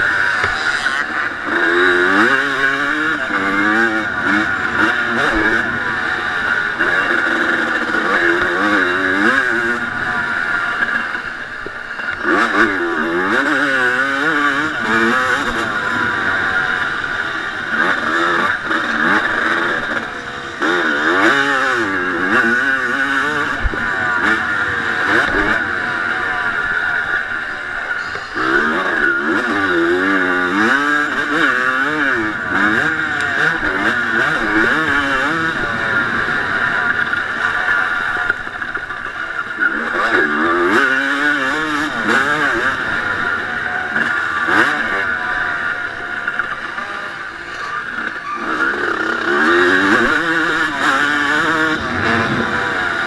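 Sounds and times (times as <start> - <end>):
two-stroke motorcycle engine revving: 0.0 - 53.0.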